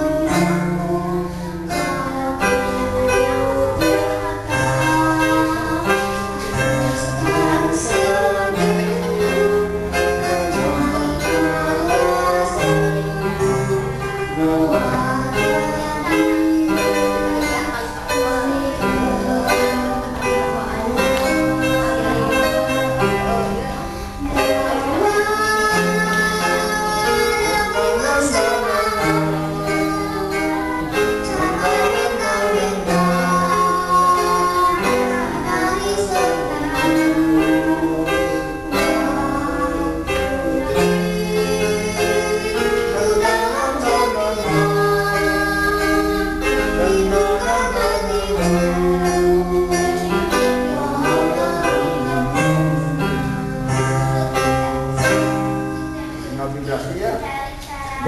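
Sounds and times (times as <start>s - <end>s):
girl singing into a microphone: 0.0s - 56.3s, 57.0s - 58.0s
electronic keyboard accompaniment: 0.0s - 58.0s.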